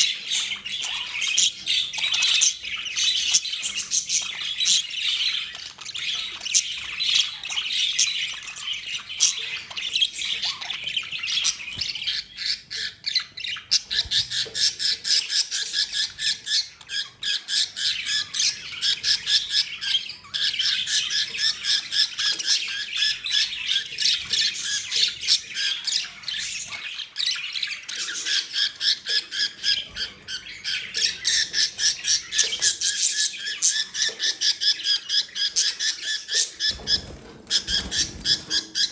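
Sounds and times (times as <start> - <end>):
budgerigars squawking: 0.0 - 38.9.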